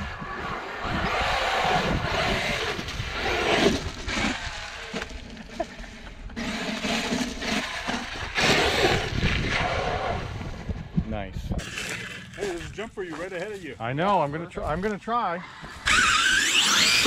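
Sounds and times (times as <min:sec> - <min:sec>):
rc truck motor and tyres churning: 0:00.0 - 0:17.0.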